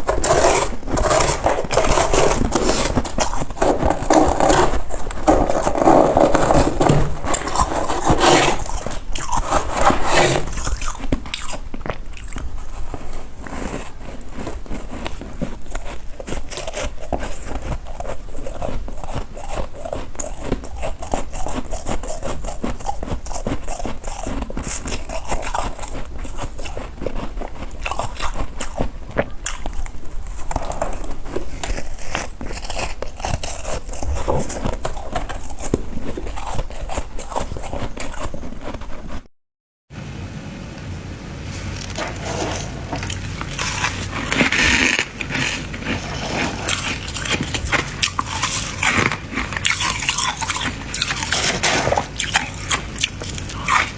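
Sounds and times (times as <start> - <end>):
frost being scraped crunching: 0.0 - 39.3, 41.5 - 53.9.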